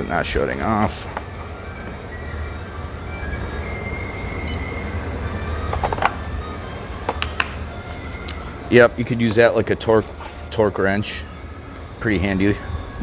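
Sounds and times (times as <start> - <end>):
low shop rumble: 0.0 - 13.0.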